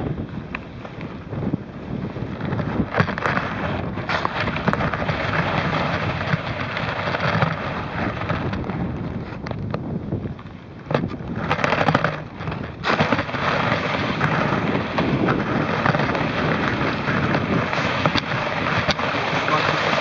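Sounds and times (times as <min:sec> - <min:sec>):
ski scraping over snow: 0:00.0 - 0:10.0, 0:10.9 - 0:20.0
wind on microphone: 0:00.0 - 0:20.0.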